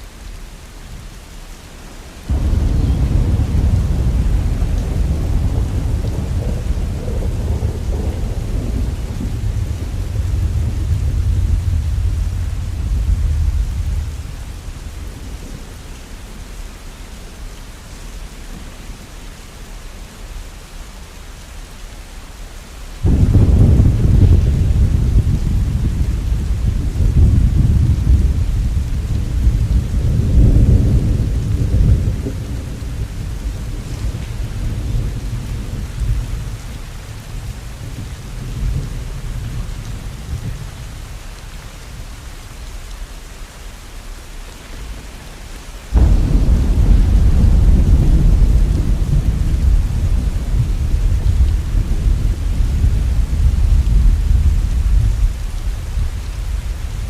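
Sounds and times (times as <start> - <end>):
steady rain: 0.0 - 57.0
thunder rumbling: 2.2 - 16.8, 23.0 - 42.4, 44.8 - 57.0.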